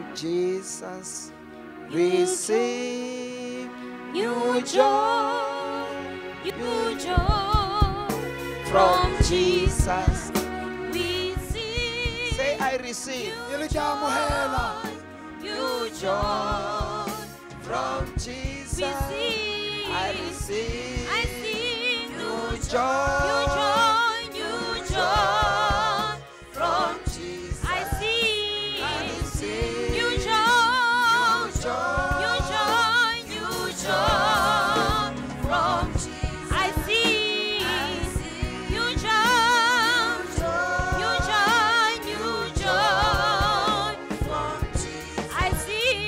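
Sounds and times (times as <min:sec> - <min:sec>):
gospel singing: 0:00.0 - 0:46.0
instrumental backing: 0:00.0 - 0:46.0.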